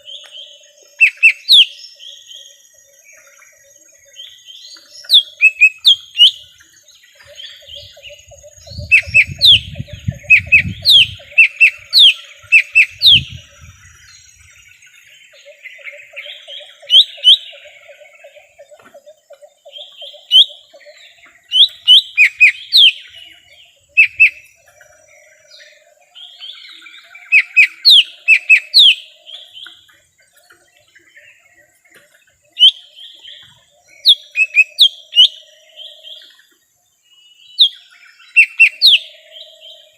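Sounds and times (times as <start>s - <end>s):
bird singing whistled notes: 0.0s - 31.8s, 32.4s - 39.9s.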